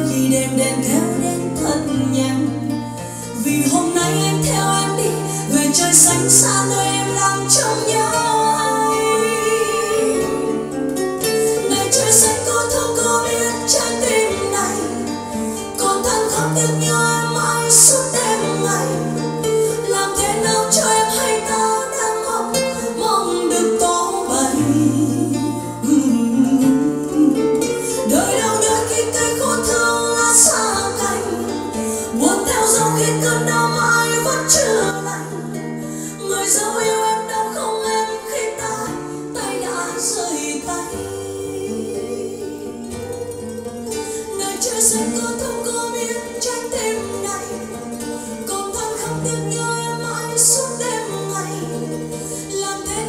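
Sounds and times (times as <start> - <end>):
person singing: 0.0 - 53.0
plucked guitar music: 0.0 - 53.0.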